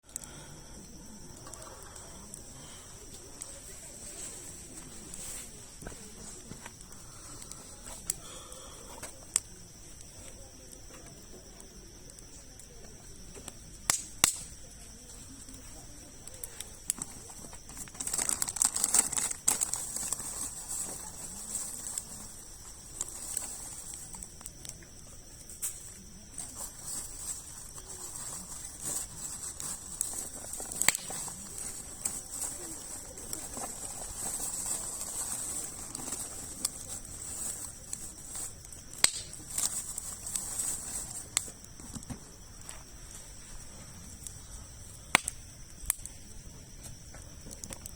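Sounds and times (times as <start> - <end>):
campfire logs crackling: 0.1 - 47.9.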